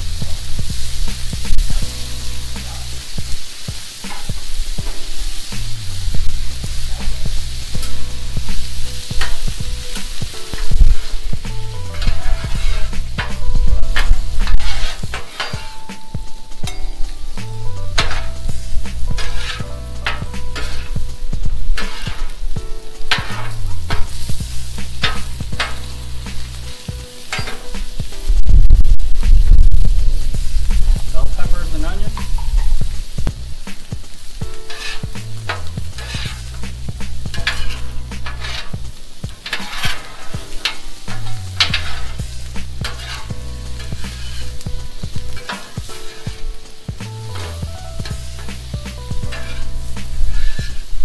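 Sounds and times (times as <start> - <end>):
metal spatula scraping steel: 0.0 - 28.2, 34.2 - 51.0
food sizzling on griddle: 0.0 - 51.0.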